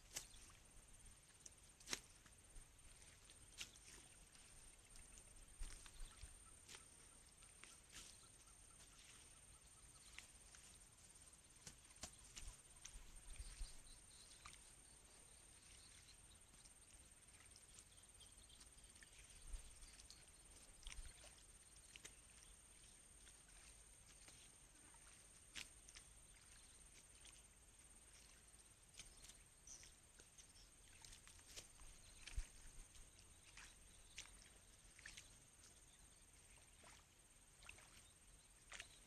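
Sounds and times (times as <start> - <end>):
water plants rustling: 0.0 - 39.0
small clicks and splashes: 1.2 - 8.1, 11.6 - 14.9, 15.6 - 39.0.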